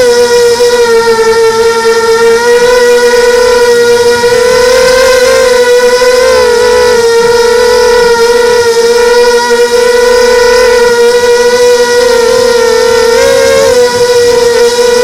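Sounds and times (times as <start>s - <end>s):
motor and propeller whine: 0.0s - 15.0s.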